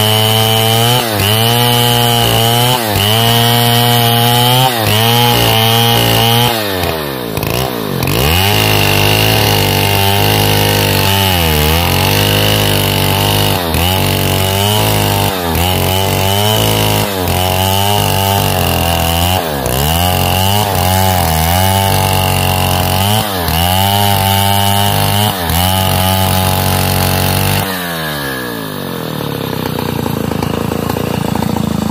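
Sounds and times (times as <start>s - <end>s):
chainsaw cutting log: 0.0s - 31.9s.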